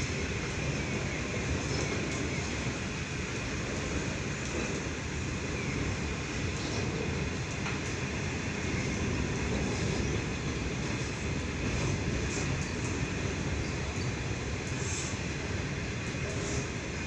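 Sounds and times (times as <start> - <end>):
freight train wagons rolling: 0.0 - 17.0.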